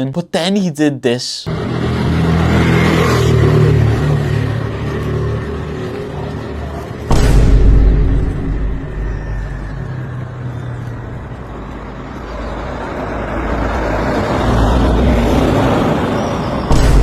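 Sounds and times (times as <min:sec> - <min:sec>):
traffic noise: 0:00.0 - 0:17.0
vehicle passing close: 0:01.5 - 0:17.0.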